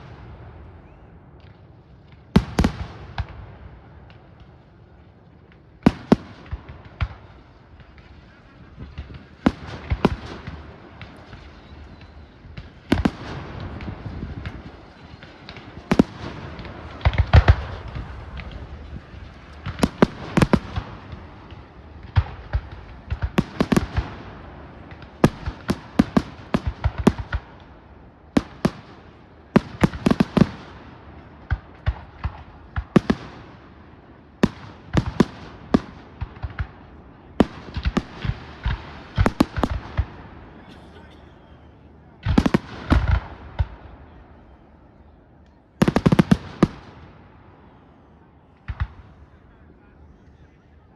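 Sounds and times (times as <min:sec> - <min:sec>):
fireworks bangs and crackling: 0:00.0 - 0:50.8.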